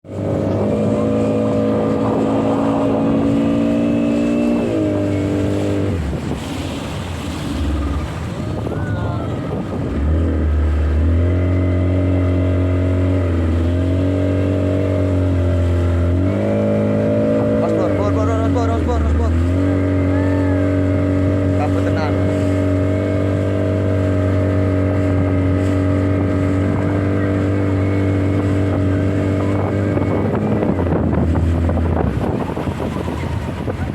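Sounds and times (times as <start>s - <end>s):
motorboat engine running: 0.0s - 33.9s.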